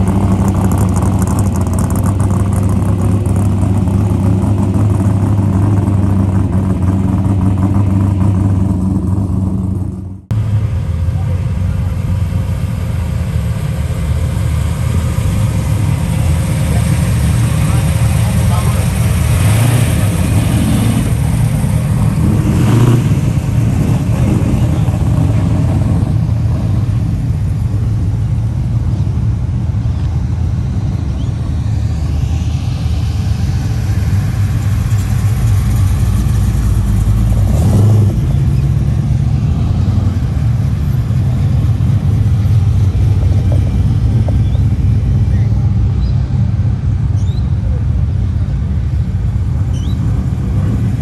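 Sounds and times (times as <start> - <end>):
engine throttle revs: 0.0 - 28.2, 31.5 - 47.8
car engines rumbling past: 0.0 - 51.0.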